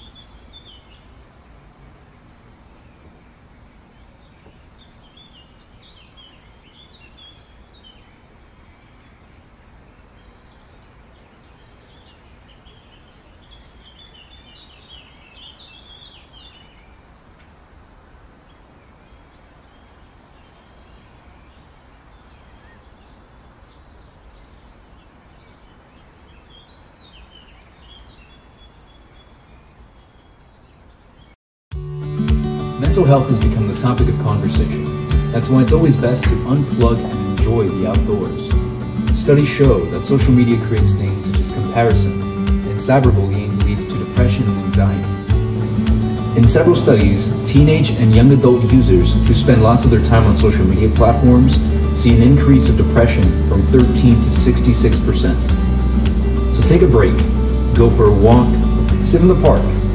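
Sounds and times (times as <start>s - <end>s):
small birds chirping: 0.0s - 31.4s, 32.1s - 59.9s.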